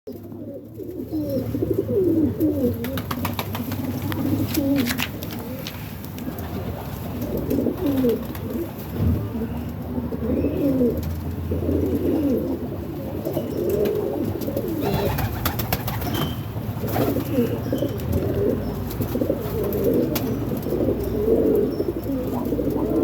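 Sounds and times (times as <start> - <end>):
pigeons cooing: 0.1 - 23.0.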